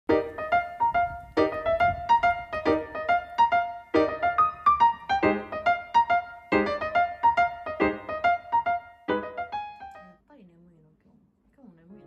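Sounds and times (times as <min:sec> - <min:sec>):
light melody over chords: 0:00.1 - 0:10.2.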